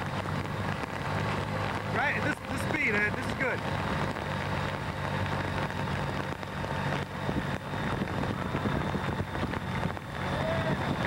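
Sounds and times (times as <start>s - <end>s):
motorcycle engine humming: 0.0s - 11.0s
wind and wet road hiss: 0.0s - 11.0s.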